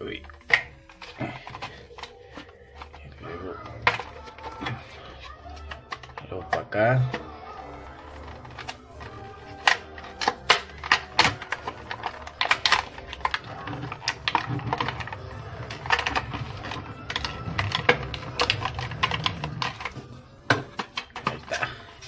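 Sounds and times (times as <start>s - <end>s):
plastic blister pack crackling: 0.0s - 22.0s.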